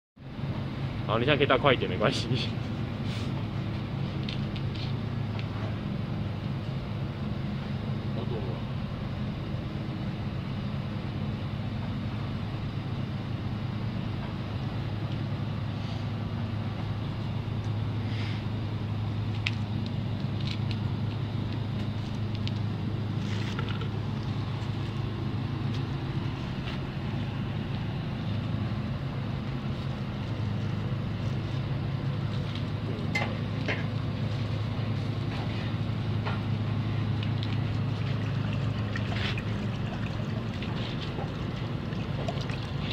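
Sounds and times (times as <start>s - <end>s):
machine humming: 2.2s - 42.9s.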